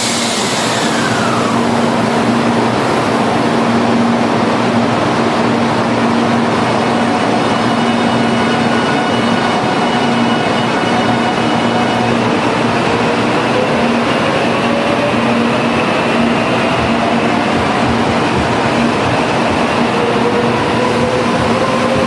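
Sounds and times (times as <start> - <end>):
train rushing noise: 0.0 - 22.0.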